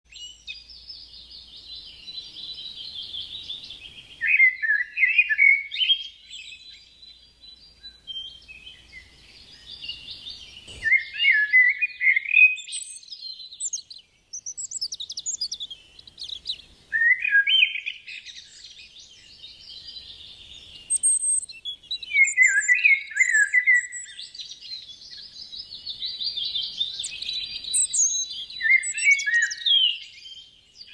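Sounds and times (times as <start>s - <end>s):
bird calls with falling notes: 0.1s - 30.9s
birds chirping and chattering: 0.1s - 30.9s.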